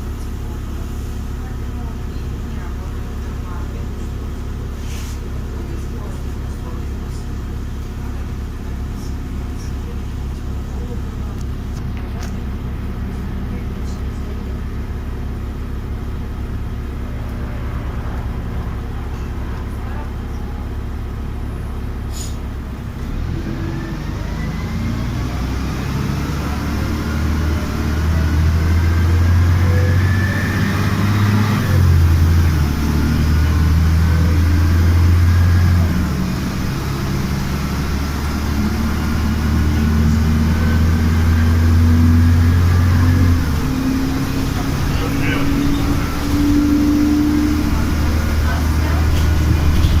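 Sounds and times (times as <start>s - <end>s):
bus engine drone: 0.0s - 50.0s.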